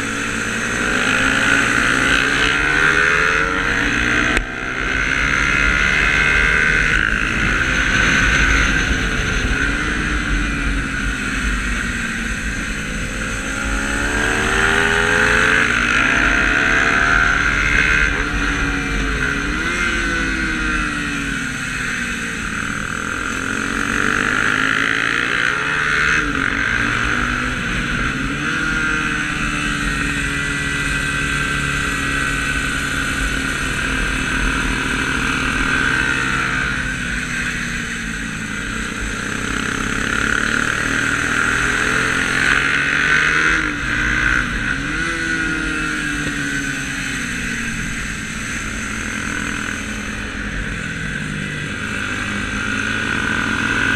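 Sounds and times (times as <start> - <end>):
motorcycle engine revving: 0.0 - 53.9
wind and road noise: 0.0 - 53.9.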